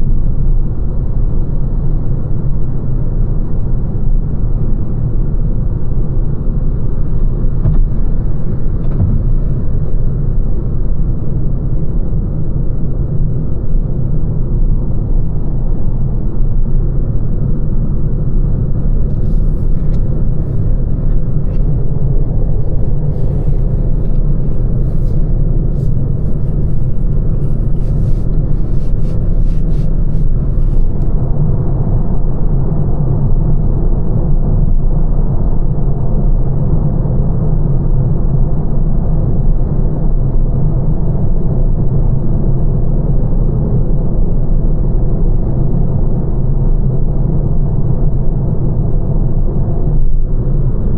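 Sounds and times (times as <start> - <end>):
road and tyre rumble in car: 0.0 - 50.9.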